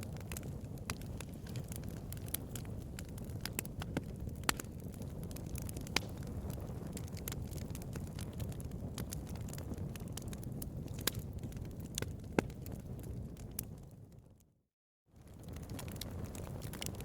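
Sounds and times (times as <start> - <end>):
bonfire flames rumbling: 0.0 - 14.5, 15.2 - 17.0
fire crackling and popping: 0.0 - 14.5, 15.2 - 17.0.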